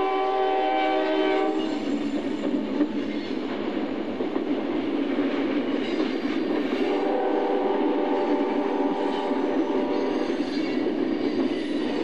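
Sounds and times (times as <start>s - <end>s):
diesel freight train passing: 0.0s - 12.0s.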